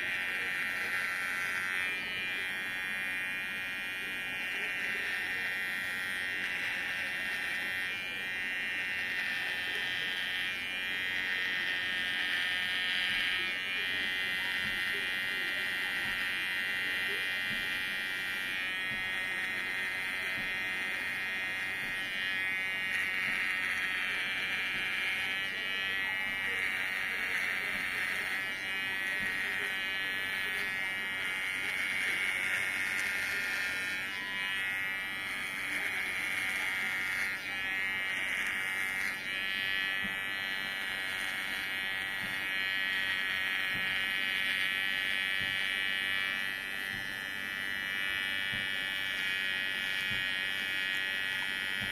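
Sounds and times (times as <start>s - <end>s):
electric hair clipper buzzing: 0.0s - 51.9s.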